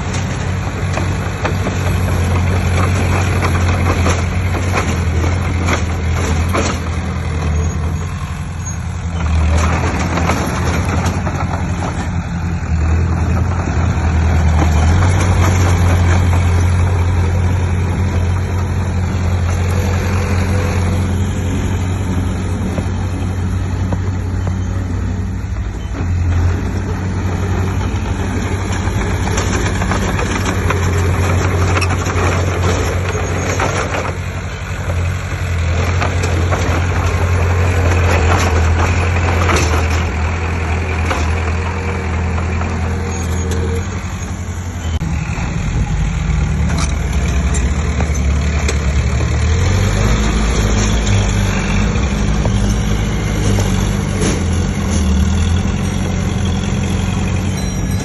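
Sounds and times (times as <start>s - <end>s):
clatter from work: 0.0s - 24.8s, 25.5s - 45.0s, 46.5s - 58.0s
heavy diesel machinery running: 0.0s - 58.0s.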